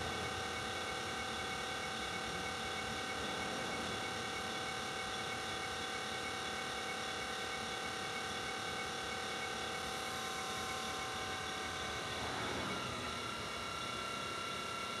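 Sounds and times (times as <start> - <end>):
pottery wheel motor humming: 0.0 - 15.0.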